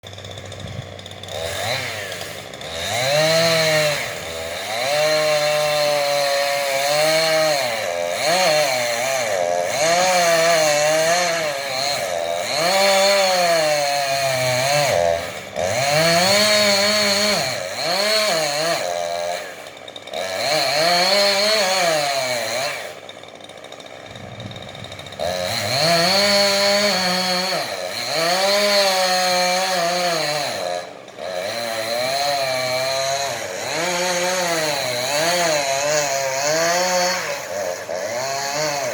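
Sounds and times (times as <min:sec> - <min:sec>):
chainsaw revving while cutting: 0:00.0 - 0:38.9.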